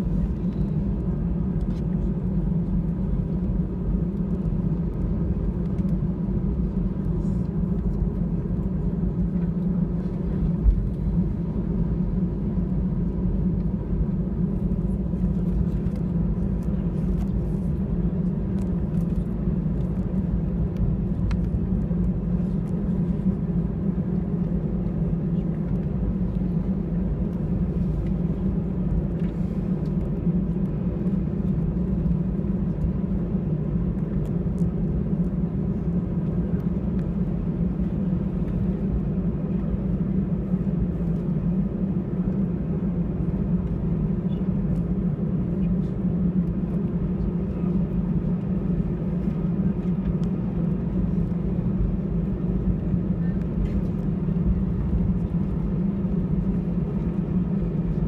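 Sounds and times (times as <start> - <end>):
aircraft engines rumbling: 0.0 - 58.0
faint steady whine: 0.0 - 58.0.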